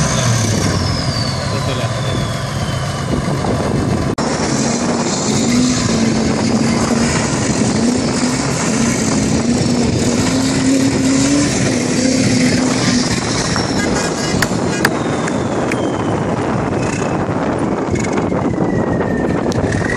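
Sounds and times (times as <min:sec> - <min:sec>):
engine running at high revs: 0:00.0 - 0:19.9.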